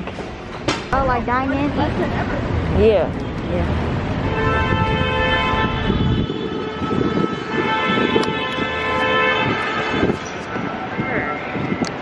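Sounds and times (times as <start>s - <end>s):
city street noise: 0.0s - 12.0s
wind buffeting microphone: 0.9s - 12.0s.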